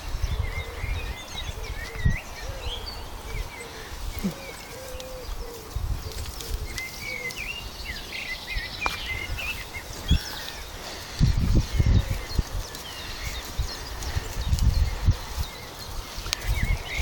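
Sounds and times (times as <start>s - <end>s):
birds chirping and singing: 0.0s - 17.0s
wind buffeting microphone: 0.0s - 17.0s.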